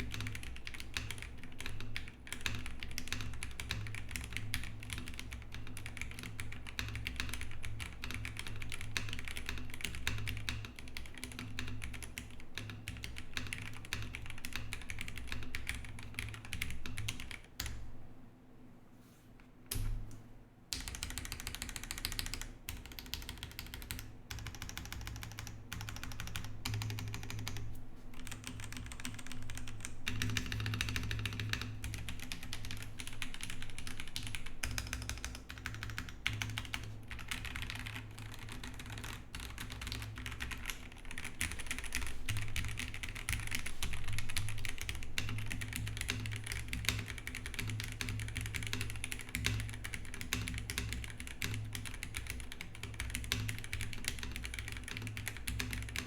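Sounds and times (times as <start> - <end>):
typing on mechanical keyboard: 0.0 - 17.8, 20.7 - 27.6, 28.2 - 56.0.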